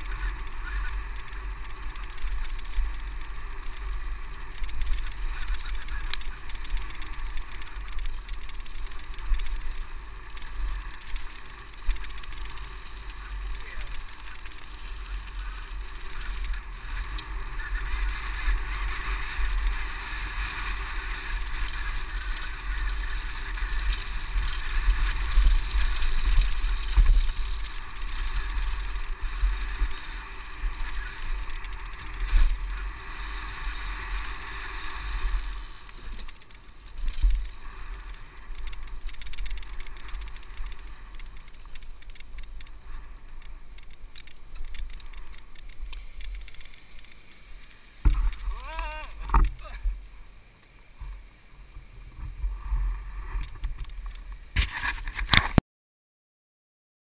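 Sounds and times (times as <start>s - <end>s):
low rumble of bike ride: 0.0s - 55.6s.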